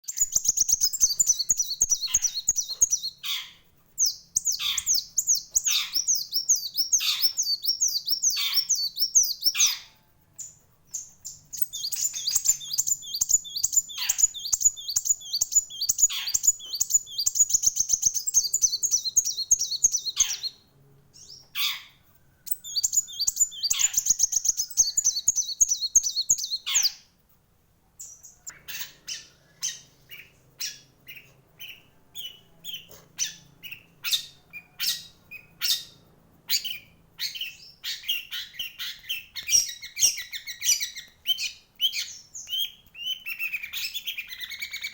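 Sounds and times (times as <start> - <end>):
sunbird singing high chirps: 0.0 - 27.1, 28.0 - 44.9.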